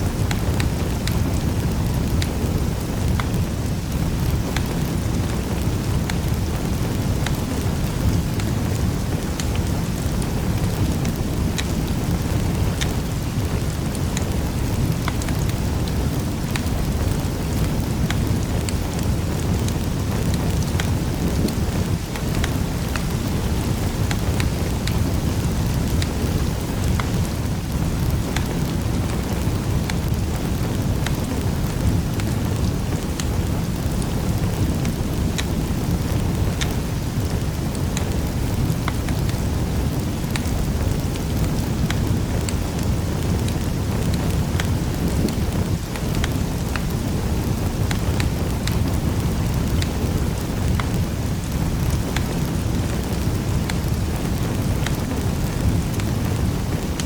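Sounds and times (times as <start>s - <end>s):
fire flames rumbling: 0.0s - 57.0s
wood fire crackling and popping: 0.0s - 57.0s.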